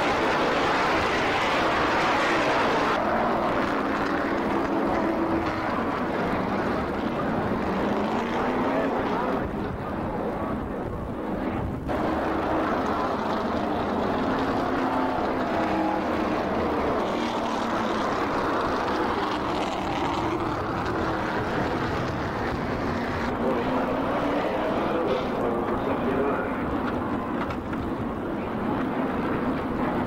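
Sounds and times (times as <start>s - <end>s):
race car engines passing: 0.0s - 30.0s.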